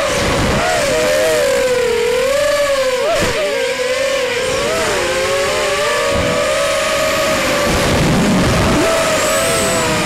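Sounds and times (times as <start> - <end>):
drone motors whining: 0.6 - 10.0.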